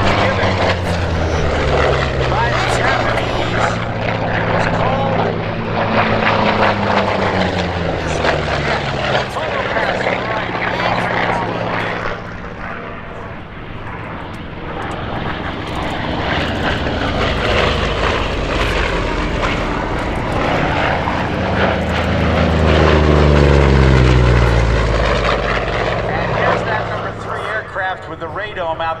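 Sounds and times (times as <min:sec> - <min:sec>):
propeller plane engine droning past: 0:00.0 - 0:29.0.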